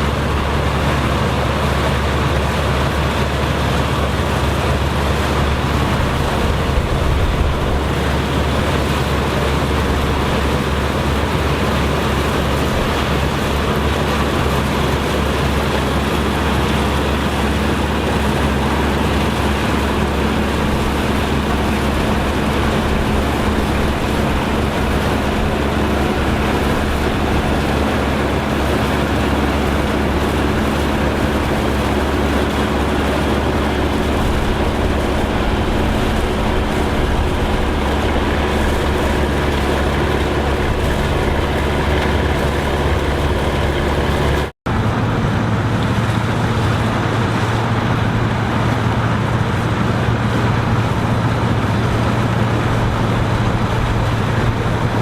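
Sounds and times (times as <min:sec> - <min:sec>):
farm machinery engine drone: 0:00.0 - 0:55.0.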